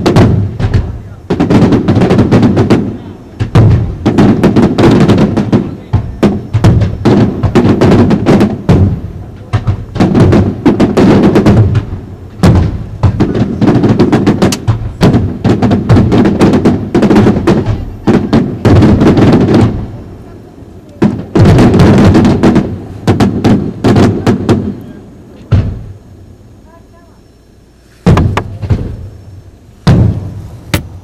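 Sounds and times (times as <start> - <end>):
fireworks bangs and crackle: 0.0 - 27.1, 28.0 - 31.0.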